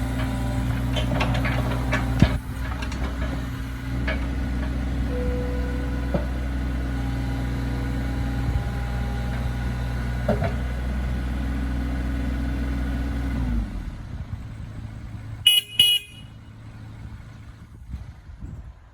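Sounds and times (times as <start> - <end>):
diesel engine idling: 0.0 - 17.8.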